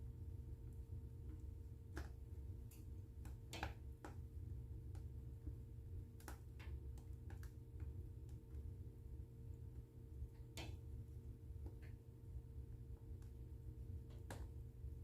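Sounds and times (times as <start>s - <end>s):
low steady hum: 0.0s - 15.0s
wood fire crackling and popping: 0.0s - 15.0s.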